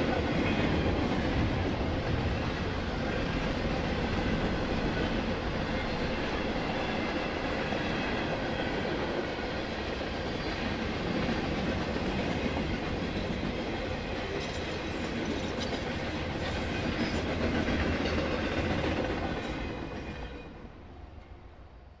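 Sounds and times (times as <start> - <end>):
freight train rolling past: 0.0 - 22.0.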